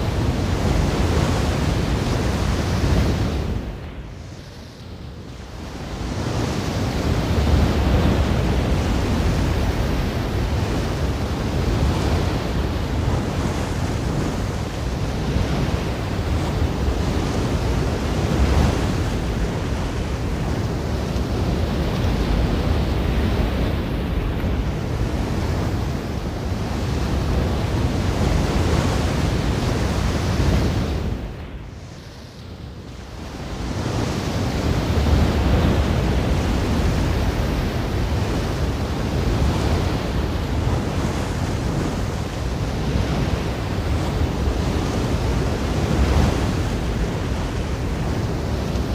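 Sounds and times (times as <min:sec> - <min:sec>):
ocean surf washing on shore: 0:00.0 - 0:48.9.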